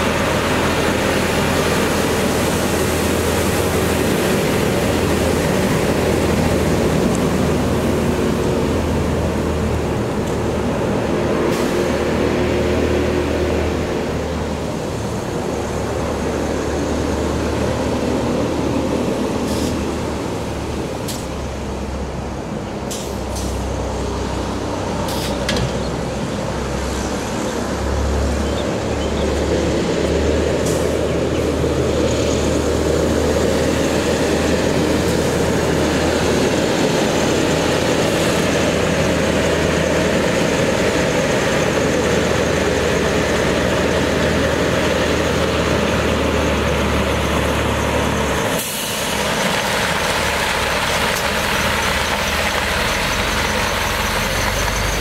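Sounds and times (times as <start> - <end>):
diesel truck engine drone: 0.0 - 55.0.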